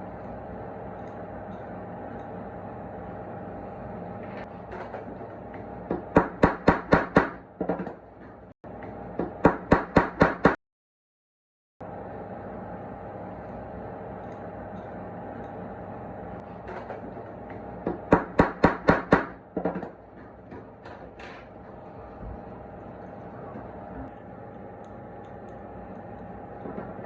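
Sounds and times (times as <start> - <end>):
steady background hum: 0.0 - 10.5, 11.8 - 27.0.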